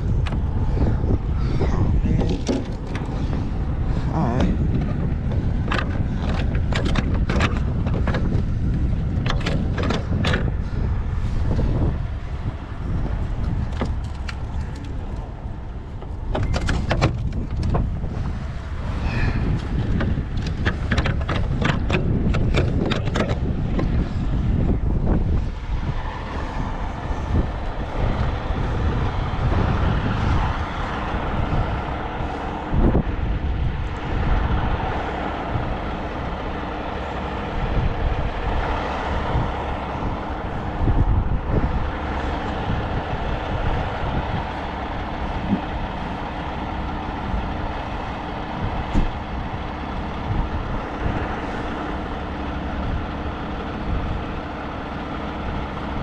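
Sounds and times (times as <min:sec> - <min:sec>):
engine knocks: 0:00.0 - 0:56.0
truck engine rumbling: 0:00.0 - 0:56.0.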